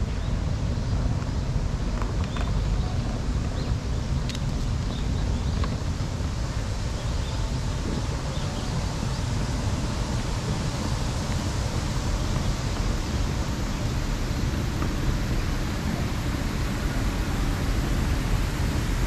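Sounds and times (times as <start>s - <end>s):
outdoor ambient rushing hiss: 0.0s - 19.0s.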